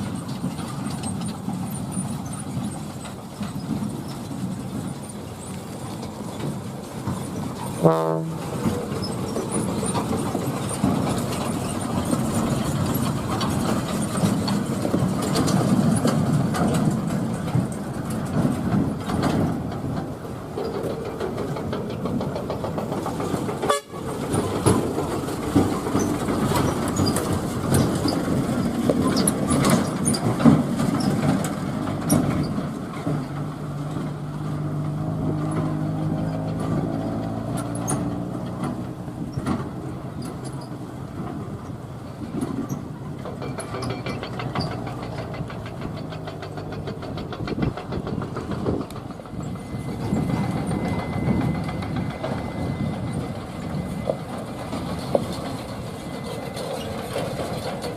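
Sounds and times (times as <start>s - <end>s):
heavy truck engines running: 0.0s - 57.9s
trucks rattling and knocking: 0.0s - 57.9s.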